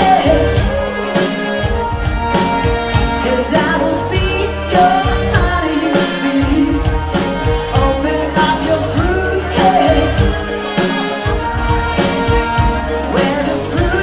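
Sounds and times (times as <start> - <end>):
band playing: 0.0 - 14.0
lead vocal singing: 0.0 - 14.0.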